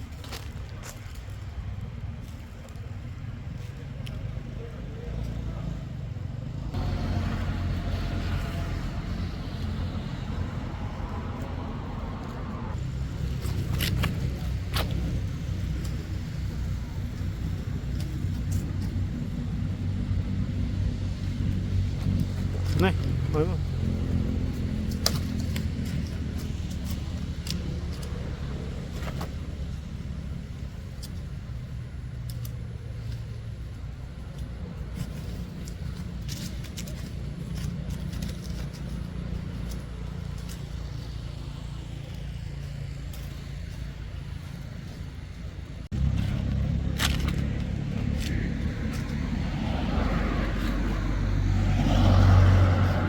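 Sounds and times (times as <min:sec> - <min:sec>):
engine humming with hiss: 0:00.0 - 0:53.0
low motor rumble: 0:01.1 - 0:53.0.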